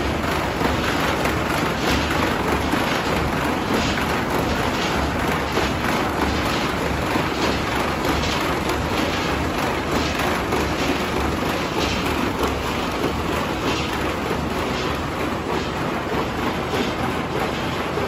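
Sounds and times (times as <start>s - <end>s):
machine line rushing and rattling: 0.0s - 18.0s.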